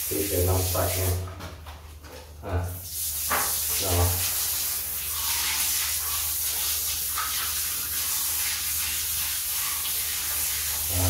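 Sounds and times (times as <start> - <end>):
shower water spraying: 0.0 - 1.3, 2.8 - 11.0.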